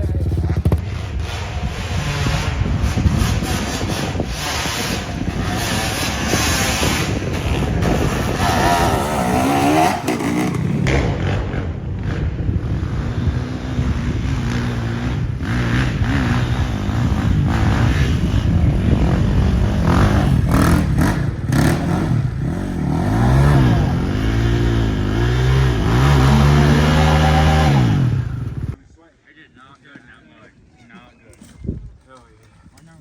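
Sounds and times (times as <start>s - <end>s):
quad engine revving: 0.0s - 28.8s.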